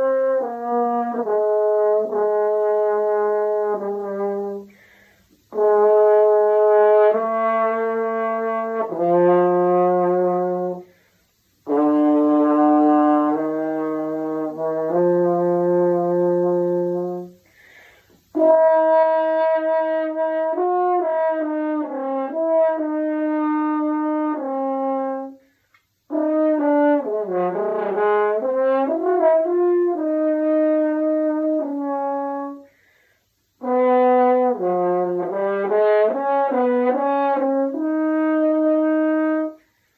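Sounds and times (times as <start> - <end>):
french horn melody: 0.0 - 39.9.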